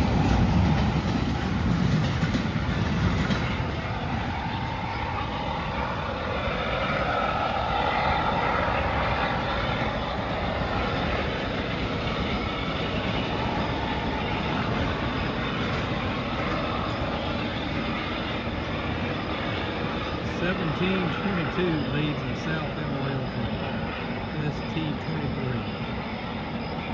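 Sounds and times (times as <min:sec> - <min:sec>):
train rolling past: 0:00.0 - 0:26.9.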